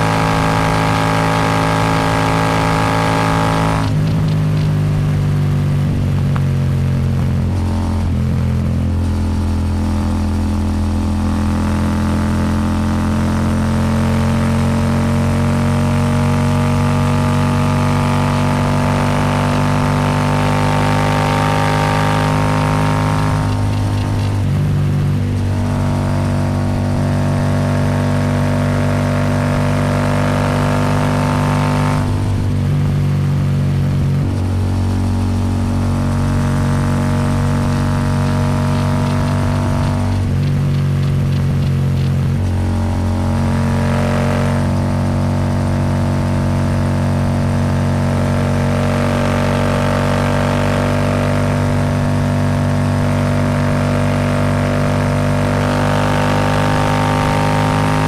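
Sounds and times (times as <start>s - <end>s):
motorcycle engine under throttle: 0.0s - 58.0s.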